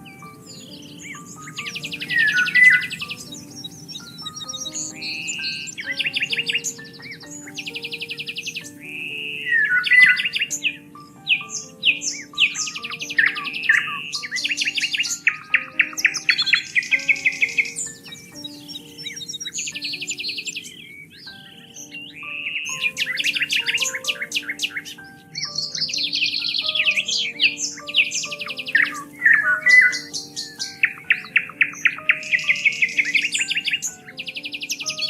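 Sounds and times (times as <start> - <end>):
soft music of held notes: 0.0 - 35.0
songbirds singing and chirping: 0.0 - 35.0.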